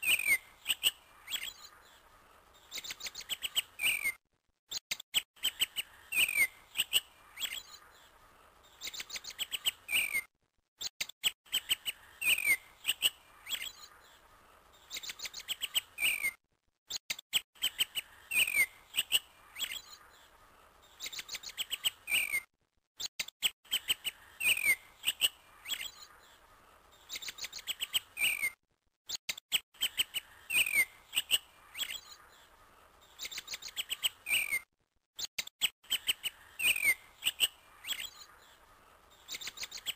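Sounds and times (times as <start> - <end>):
recorded birdsong chirps: 0.0 - 39.9.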